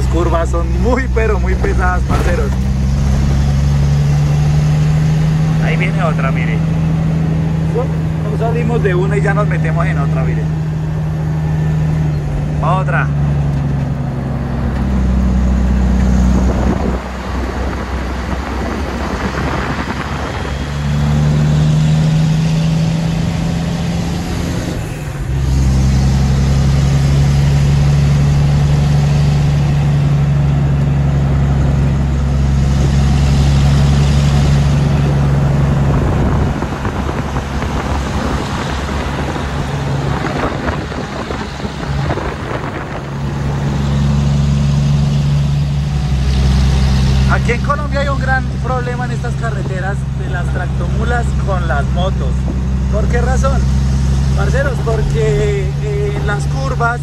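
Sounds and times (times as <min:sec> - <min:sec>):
diesel truck engine pulling uphill: 0:00.0 - 0:57.0.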